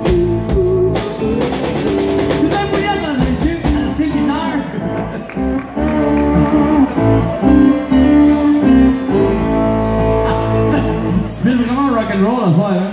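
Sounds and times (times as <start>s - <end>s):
live country band playing: 0.0s - 12.9s.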